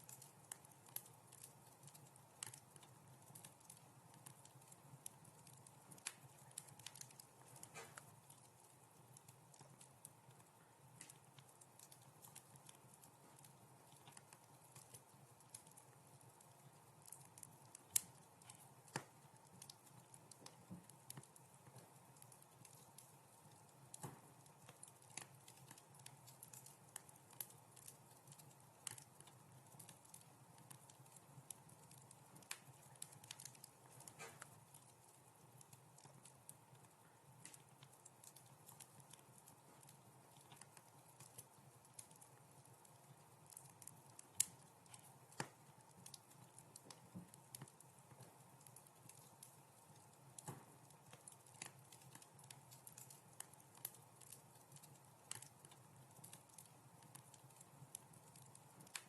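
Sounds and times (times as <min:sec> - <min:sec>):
faint steady background noise: 0:00.0 - 0:59.0
faint wood fire crackling: 0:00.0 - 0:59.0
small fire pops and snaps: 0:00.0 - 0:59.0.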